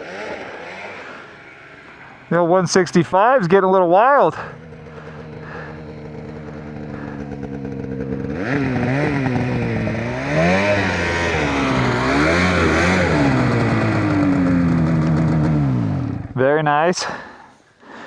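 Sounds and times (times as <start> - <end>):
snowmobile engine revving: 0.0 - 17.2.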